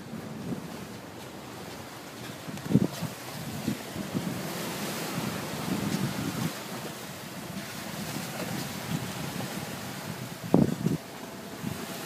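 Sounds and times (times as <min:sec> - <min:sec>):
sea water splashing: 0:00.0 - 0:12.0
wind buffeting microphone: 0:00.0 - 0:12.0.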